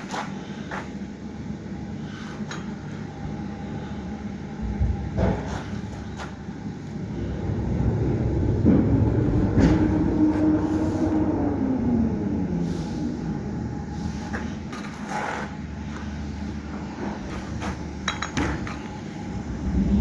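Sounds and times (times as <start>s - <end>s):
low mechanical rumble: 0.0s - 20.0s
steady hum: 0.0s - 20.0s.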